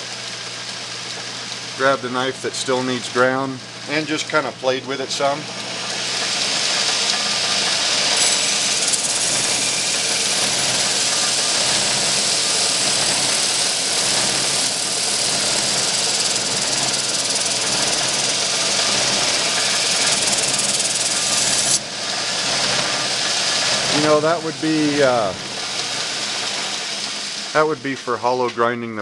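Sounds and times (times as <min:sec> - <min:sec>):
motor and belt hum: 0:00.0 - 0:29.0
steel hissing on grinder belt: 0:01.8 - 0:29.0.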